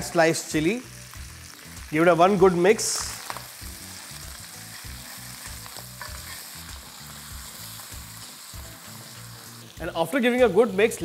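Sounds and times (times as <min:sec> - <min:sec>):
food sizzling in pan: 0:00.0 - 0:11.0.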